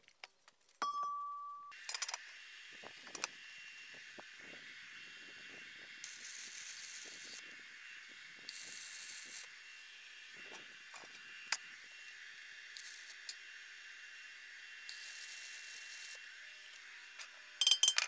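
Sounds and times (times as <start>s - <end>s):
welding arc crackling and hissing: 1.8s - 17.5s.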